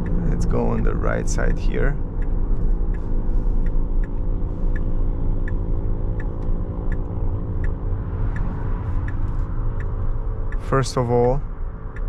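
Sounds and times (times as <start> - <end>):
light ticks: 0.0 - 12.0
tyre and road noise rumble: 0.0 - 12.0.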